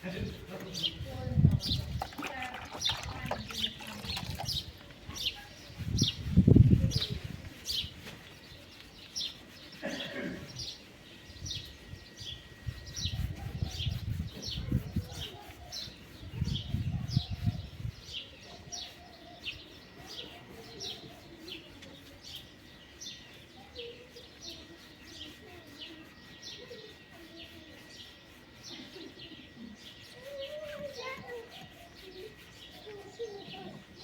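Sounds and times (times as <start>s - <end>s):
small bird chirping: 0.7s - 9.8s, 10.5s - 34.0s.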